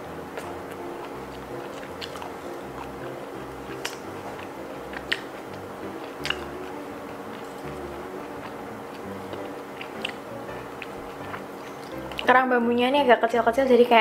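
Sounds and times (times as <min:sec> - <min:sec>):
soft music with steady beat: 0:00.0 - 0:13.6.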